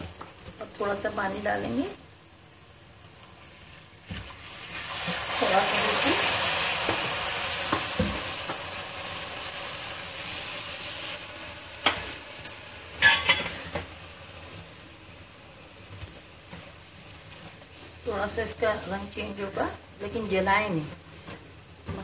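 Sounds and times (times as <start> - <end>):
spices sizzling in oil: 0.0 - 22.0.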